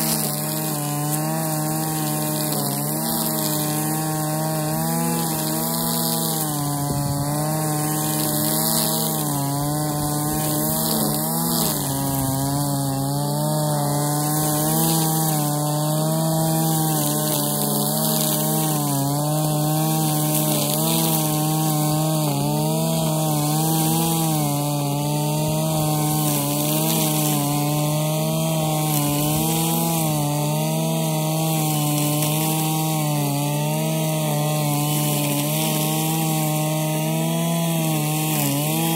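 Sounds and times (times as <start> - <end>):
brushcutter engine at high revs: 0.0 - 38.9
trimmer line cutting grass: 0.0 - 38.9.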